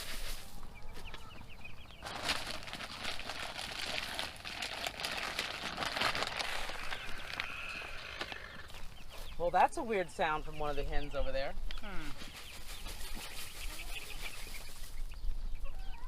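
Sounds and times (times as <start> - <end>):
chicks peeping: 0.0 - 5.4, 6.2 - 16.0.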